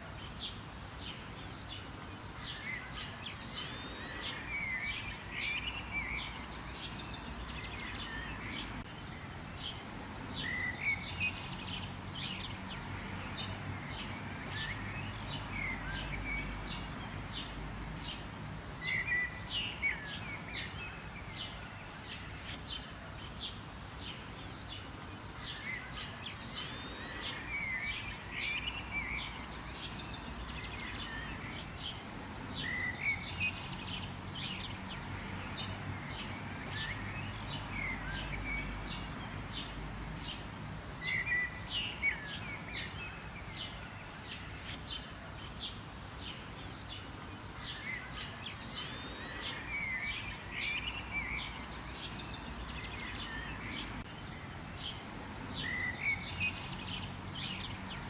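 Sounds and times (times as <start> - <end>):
birds chirping and calling: 0.2 - 58.0.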